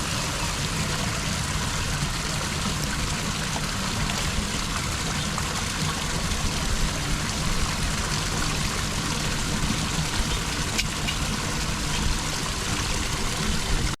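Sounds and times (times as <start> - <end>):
floodwater flowing down drain: 0.0 - 14.0.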